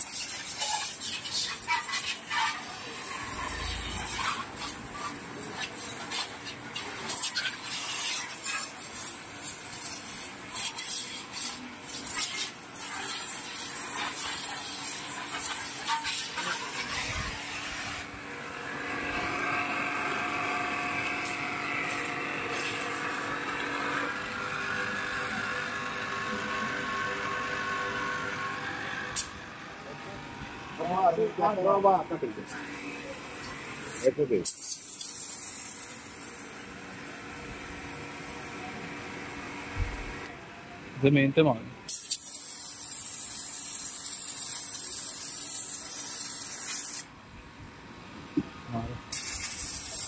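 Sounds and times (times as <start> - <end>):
pressure washer motor hum: 0.0 - 40.3.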